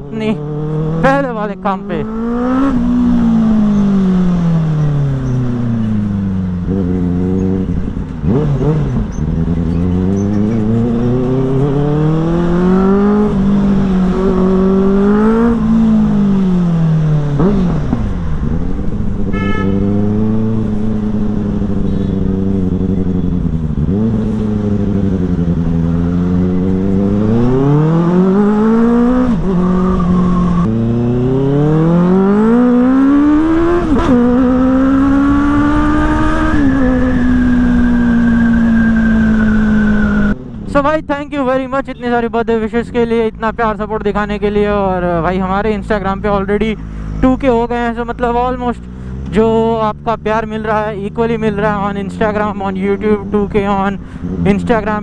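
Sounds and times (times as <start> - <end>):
motorcycle engine revving: 0.0 - 40.9, 44.6 - 55.0.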